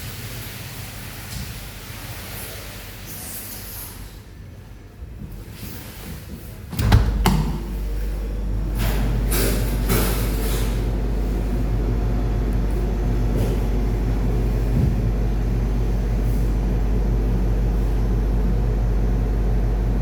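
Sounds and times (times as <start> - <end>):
ice machine hum: 0.0 - 20.0.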